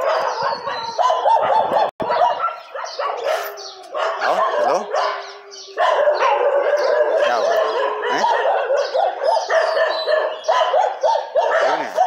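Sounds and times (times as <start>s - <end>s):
dogs barking and howling: 0.0s - 12.0s.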